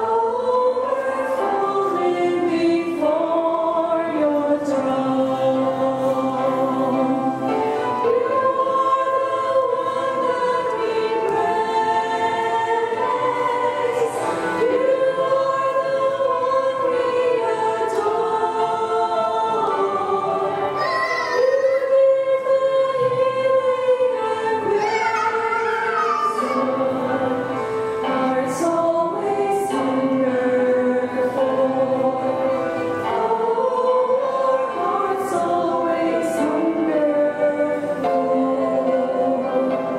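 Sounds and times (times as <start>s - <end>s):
women singing in harmony: 0.0s - 39.9s.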